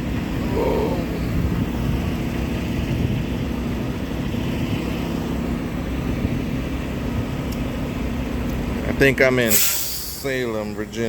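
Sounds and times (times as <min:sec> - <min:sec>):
truck engine hum: 0:00.0 - 0:11.0.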